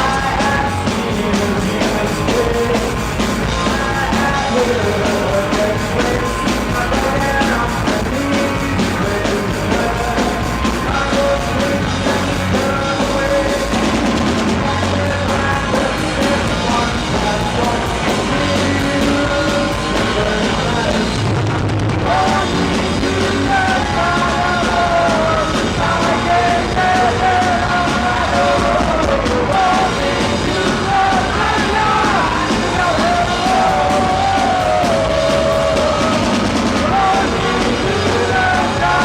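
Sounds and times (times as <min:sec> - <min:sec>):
punk rock band playing live: 0:00.0 - 0:39.0.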